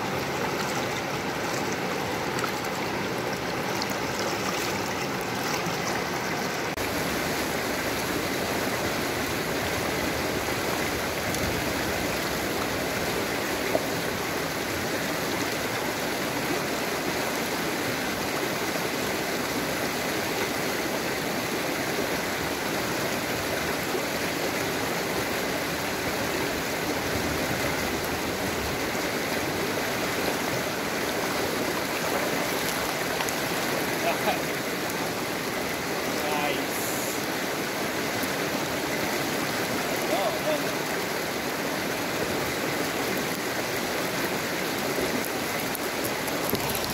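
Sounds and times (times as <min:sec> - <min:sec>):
stream rushing over rocks: 0:00.0 - 0:46.9.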